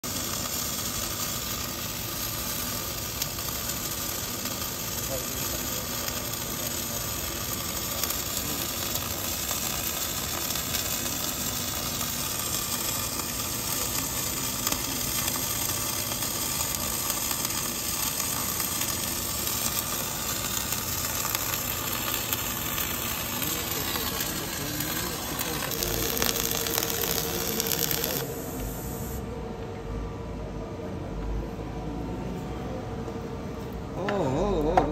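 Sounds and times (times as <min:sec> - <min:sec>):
welding arc crackling: 0:00.0 - 0:29.2.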